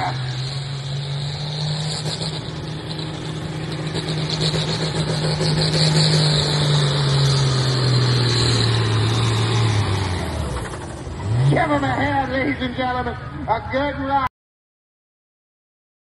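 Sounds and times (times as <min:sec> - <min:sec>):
tractor diesel engine under load: 0:00.0 - 0:14.2.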